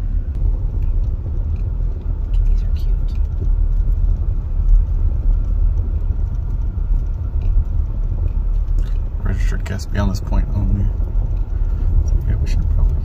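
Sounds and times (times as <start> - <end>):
engine and tyres rumbling: 0.0 - 13.0
faint ticks: 0.3 - 13.0.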